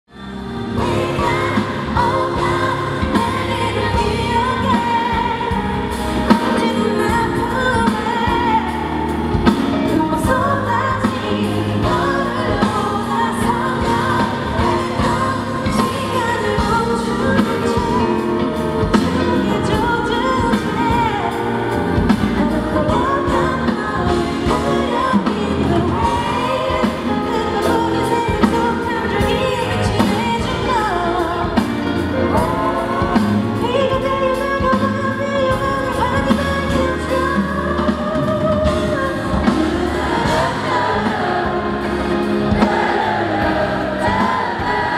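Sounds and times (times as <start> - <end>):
band playing with steady beat: 0.1 - 44.9
woman singing pop ballad: 0.6 - 44.9.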